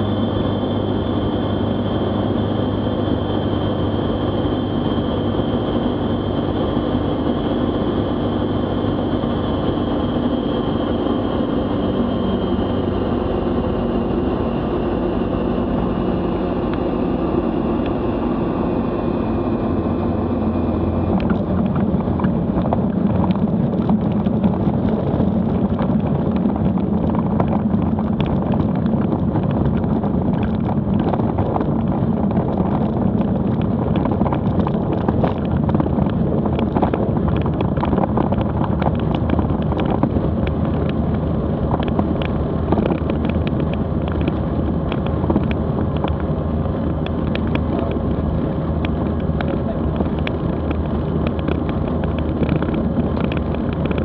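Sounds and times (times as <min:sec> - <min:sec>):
aircraft engine and propeller running: 0:00.0 - 0:54.0.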